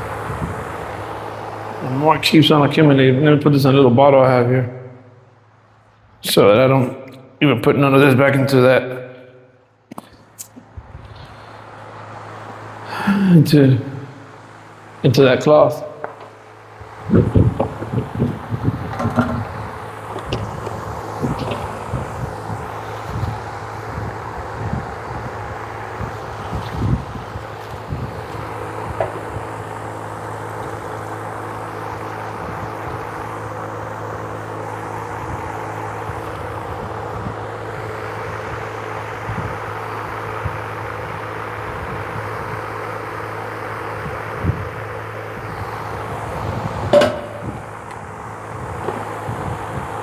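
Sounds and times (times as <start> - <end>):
motor humming: 0.0 - 4.0, 9.2 - 50.0.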